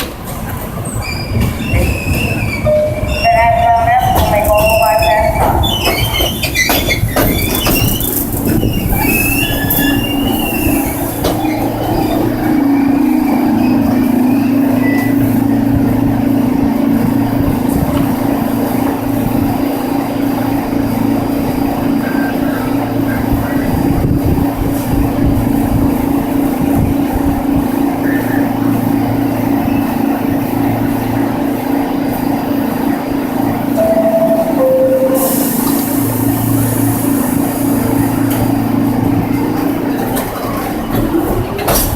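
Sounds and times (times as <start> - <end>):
train humming at platform: 0.0 - 41.9
subway train wheels squealing: 0.1 - 41.9.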